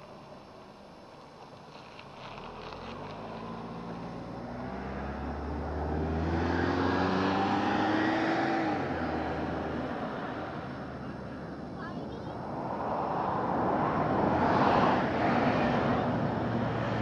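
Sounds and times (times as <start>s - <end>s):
vehicle passing by: 2.3s - 17.0s.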